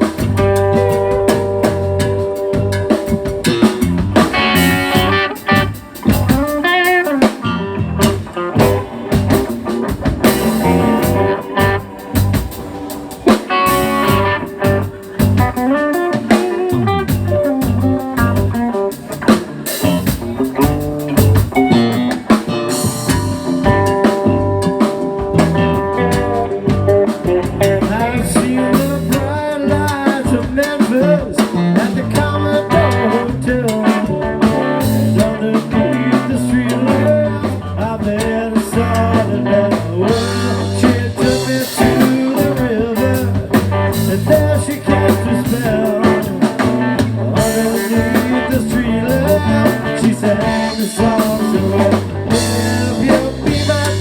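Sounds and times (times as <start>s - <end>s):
bass guitar: 0.0s - 54.0s
blues guitar with bent notes: 0.0s - 54.0s
drum kit: 0.0s - 54.0s.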